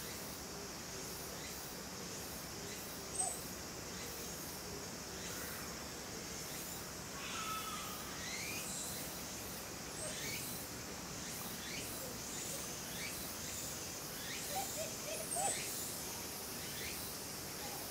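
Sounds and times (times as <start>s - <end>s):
insects chorus: 0.0s - 17.9s.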